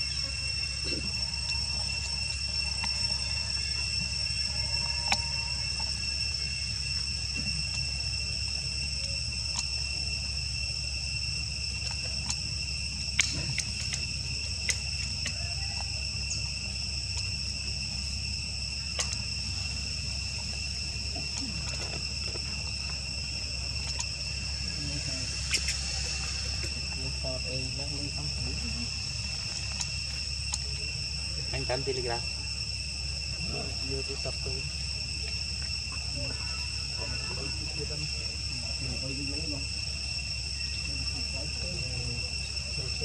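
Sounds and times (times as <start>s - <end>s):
insects trilling: 0.0s - 43.0s
low steady rumble: 0.0s - 43.0s.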